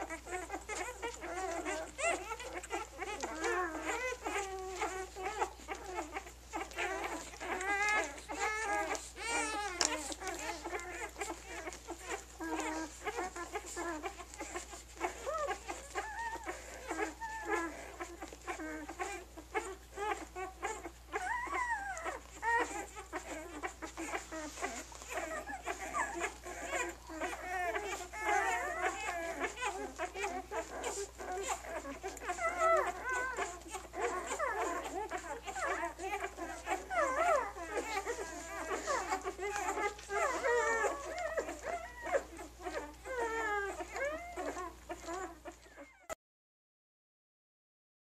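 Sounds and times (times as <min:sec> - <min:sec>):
puppies squeaking and whining: 0:00.0 - 0:46.2.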